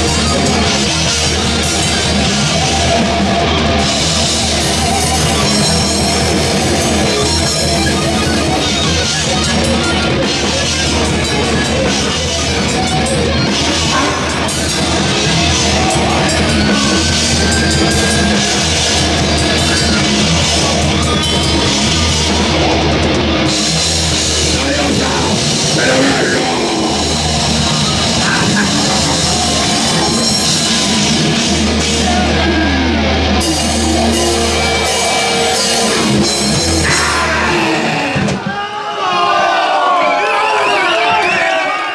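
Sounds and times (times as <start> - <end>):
metal band playing loud: 0.0 - 39.6.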